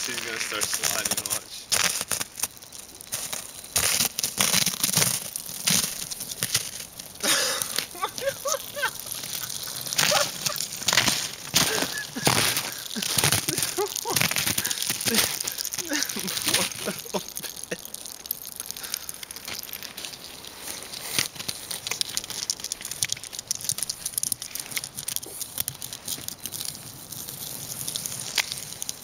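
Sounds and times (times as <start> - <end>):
dog claws scratching on icy snow: 0.0 - 29.0.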